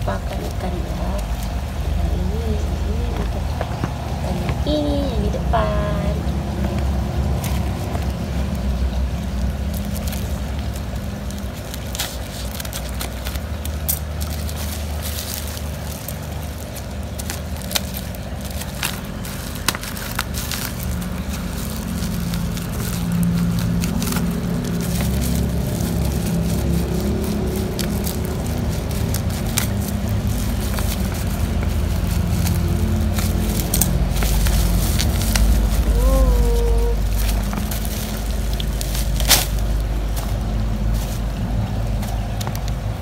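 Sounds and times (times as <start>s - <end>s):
low rumble: 0.0s - 43.0s
plastic bag crinkling: 0.0s - 43.0s.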